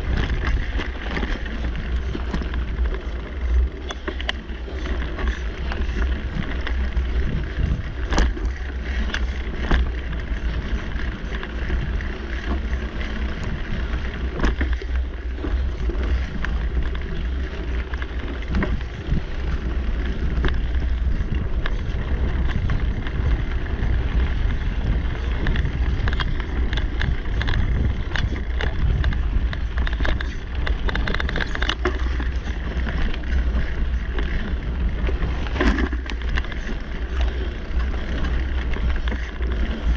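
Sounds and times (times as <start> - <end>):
bike clicks and rattles: 0.0 - 39.9
bike riding rumble: 0.0 - 39.9
wind on microphone: 0.0 - 39.9.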